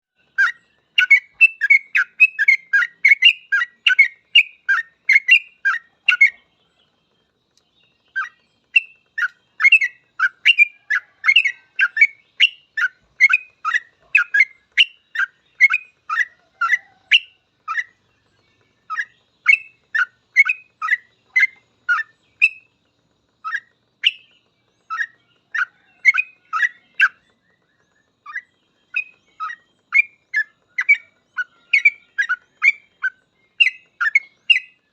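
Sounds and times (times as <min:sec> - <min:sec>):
bulbul chirping song: 0:00.2 - 0:34.9.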